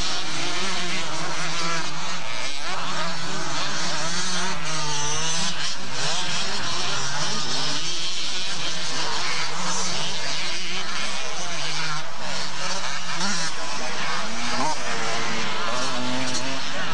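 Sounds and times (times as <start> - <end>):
motocross bike engines revving: 0.0 - 16.9.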